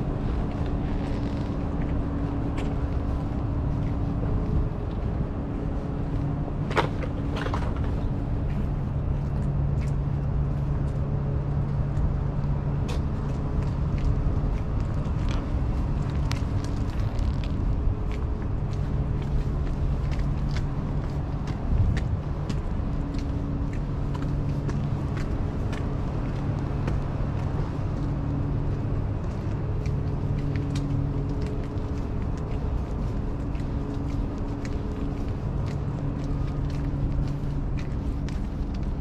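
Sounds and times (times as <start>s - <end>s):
low engine drone: 0.0s - 39.0s
road traffic rumble: 0.0s - 39.0s.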